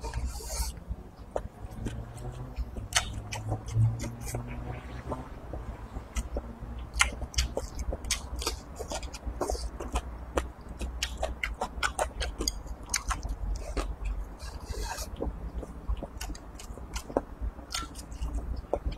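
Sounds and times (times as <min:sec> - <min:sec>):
person chewing with mouth smacks: 0:00.0 - 0:18.9
sharp chewing clicks: 0:00.0 - 0:18.9.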